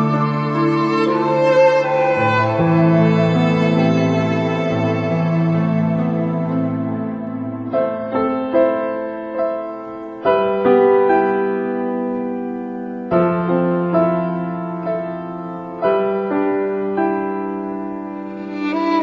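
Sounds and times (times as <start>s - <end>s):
slow soft piano music: 0.0s - 19.0s.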